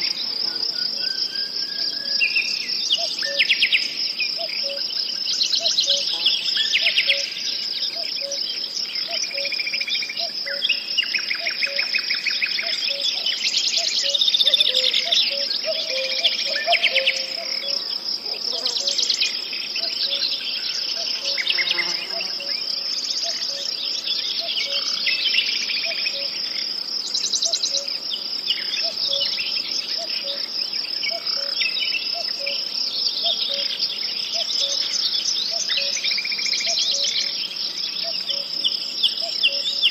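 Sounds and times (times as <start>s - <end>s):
birds singing: 0.0s - 39.9s
crickets trilling: 0.0s - 39.9s.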